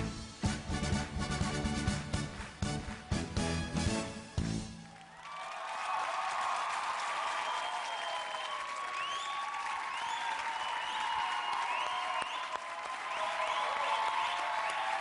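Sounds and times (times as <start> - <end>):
audience applauding and cheering: 0.4 - 15.0.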